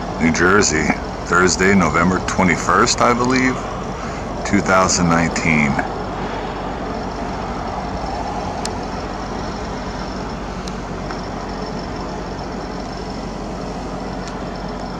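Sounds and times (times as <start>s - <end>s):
low engine hum: 0.0s - 14.9s
road traffic rush: 0.0s - 14.9s.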